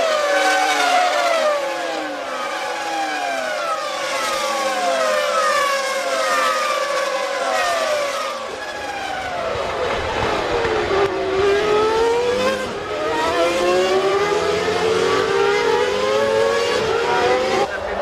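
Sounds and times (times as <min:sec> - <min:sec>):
racing car engine revving: 0:00.0 - 0:18.0.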